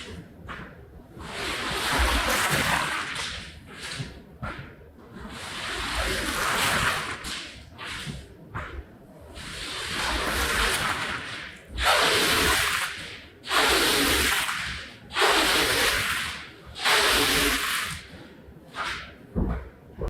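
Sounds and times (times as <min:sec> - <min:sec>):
cleaning tool stroking a rug: 0:00.0 - 0:20.0.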